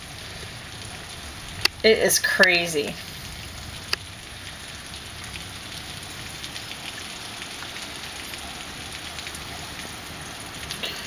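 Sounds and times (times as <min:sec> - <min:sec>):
heavy rain falling: 0:00.0 - 0:11.0
raindrops ticking: 0:00.0 - 0:11.0.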